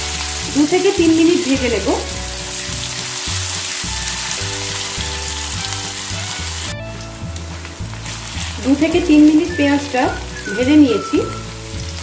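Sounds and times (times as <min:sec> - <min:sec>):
onions sizzling in hot oil: 0:00.0 - 0:12.0
soft background music: 0:00.0 - 0:12.0.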